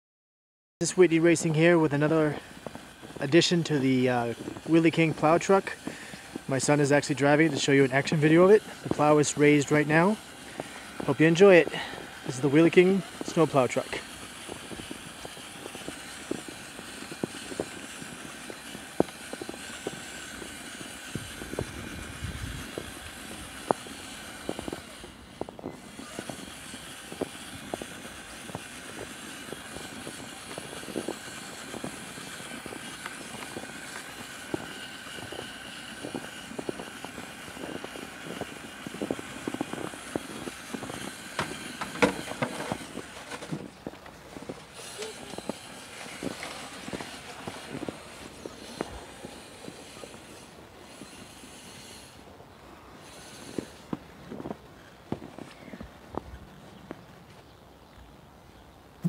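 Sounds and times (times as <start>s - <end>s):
electric motor whine: 0.8s - 57.0s
crunches and clicks in snow: 0.8s - 58.6s.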